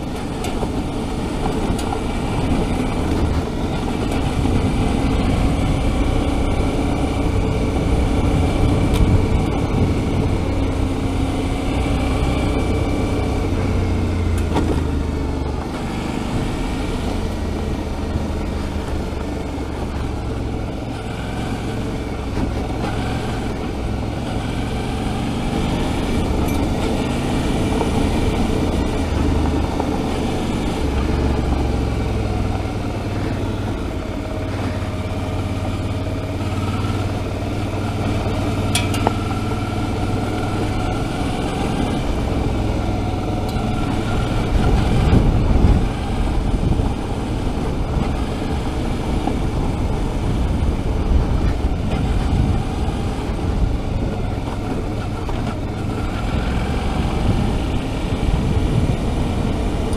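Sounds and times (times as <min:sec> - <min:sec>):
motorcycle engine running: 0:00.0 - 0:59.9
tyres on gravel road: 0:00.0 - 0:59.9.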